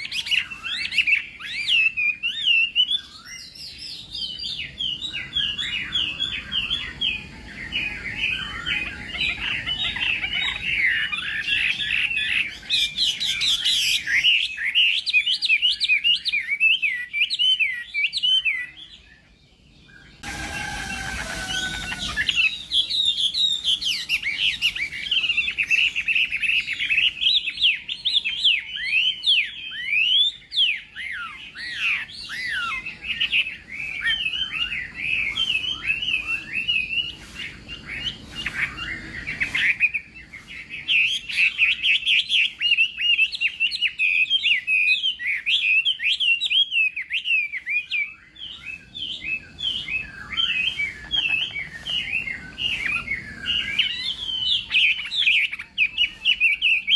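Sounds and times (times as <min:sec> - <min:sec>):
bird singing whistled phrases: 0:00.0 - 0:19.1, 0:19.9 - 0:56.9.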